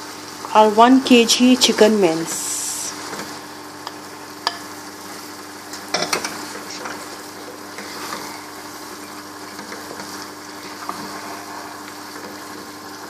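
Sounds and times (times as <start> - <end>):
mince sizzling in a pan: 0.0 - 13.0.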